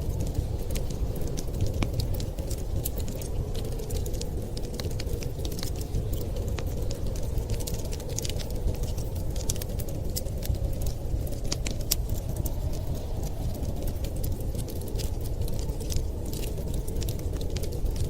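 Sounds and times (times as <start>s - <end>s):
low rumble of wind: 0.0s - 18.0s
wood fire crackling and popping: 0.0s - 18.0s.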